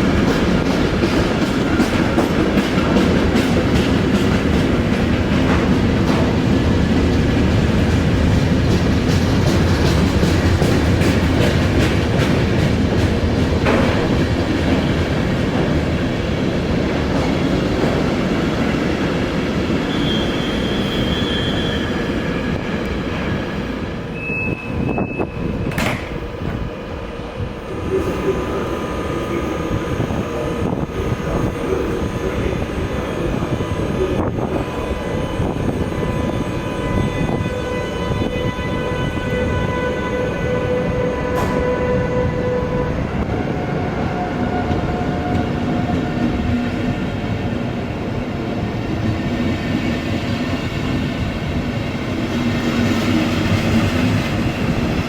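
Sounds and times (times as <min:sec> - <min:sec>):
train rolling on rails: 0:00.0 - 0:55.0.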